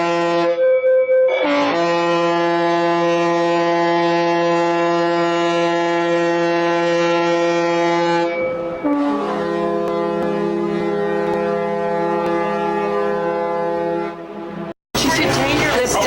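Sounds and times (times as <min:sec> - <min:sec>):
second horn note: 0:00.0 - 0:00.6, 0:01.4 - 0:14.7
ship's horn blast: 0:00.0 - 0:00.7, 0:01.4 - 0:15.9.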